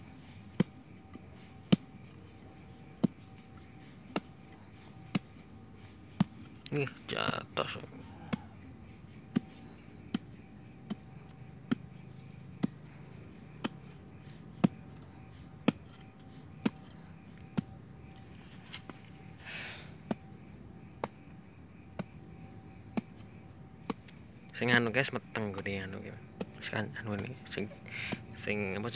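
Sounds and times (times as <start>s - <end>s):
crickets chirring: 0.0s - 28.9s
hand tool digging into soil: 0.4s - 20.3s, 20.9s - 28.9s.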